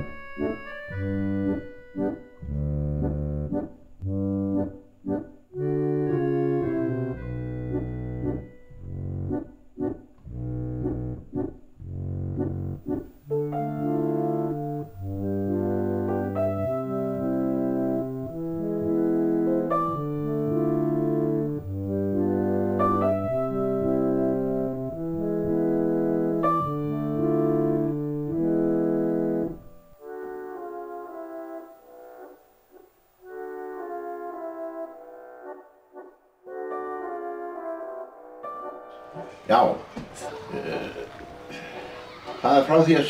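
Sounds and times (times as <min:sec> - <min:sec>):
keyboard chords music: 0:00.0 - 0:43.0.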